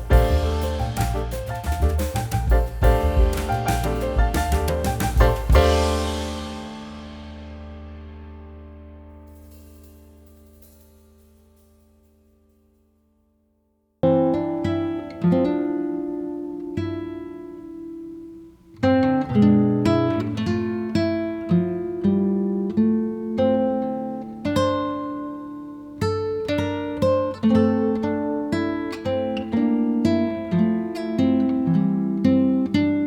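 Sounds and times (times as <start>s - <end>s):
acoustic guitar music: 0.0s - 11.8s, 14.0s - 33.0s.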